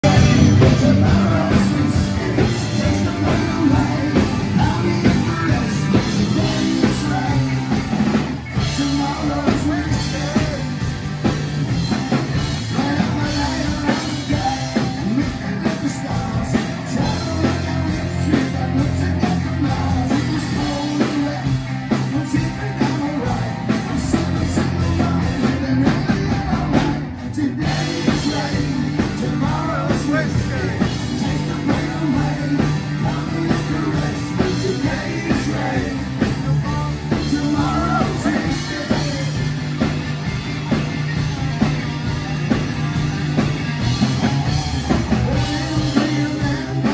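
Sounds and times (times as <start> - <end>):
distorted electric guitars: 0.0 - 46.9
drum kit: 0.0 - 46.9
electric bass: 0.0 - 46.9
sung lead vocal: 0.0 - 46.9.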